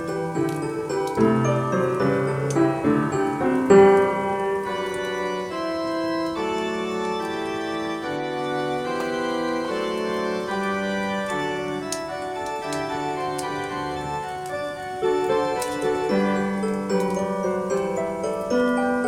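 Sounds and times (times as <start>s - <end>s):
christmas organ music: 0.0s - 19.0s.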